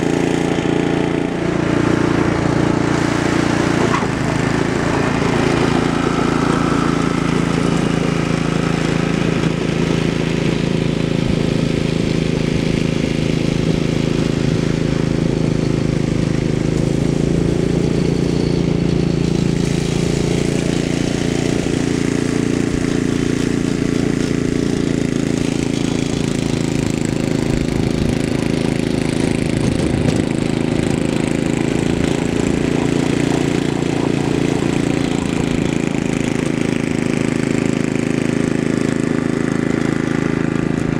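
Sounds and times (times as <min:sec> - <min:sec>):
snow blower engine running: 0:00.0 - 0:40.9.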